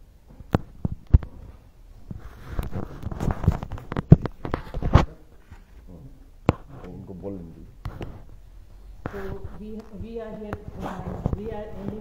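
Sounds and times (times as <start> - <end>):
rubbing and rustling: 0.7 - 12.0.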